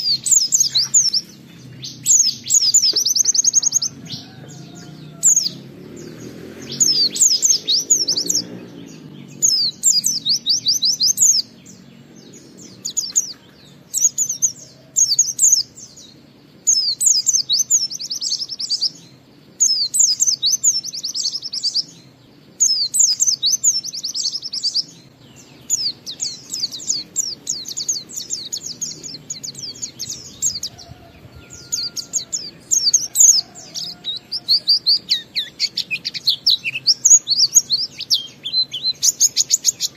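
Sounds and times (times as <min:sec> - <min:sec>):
bird singing high chirping phrases: 0:00.0 - 0:39.9.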